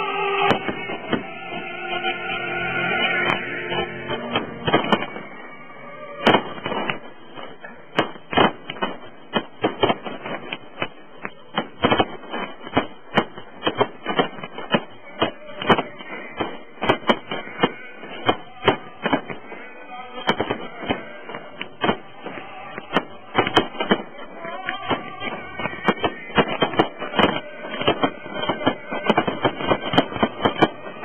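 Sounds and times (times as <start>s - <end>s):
fireworks bursting bangs: 0.0s - 31.0s
fireworks crackle: 0.0s - 31.0s.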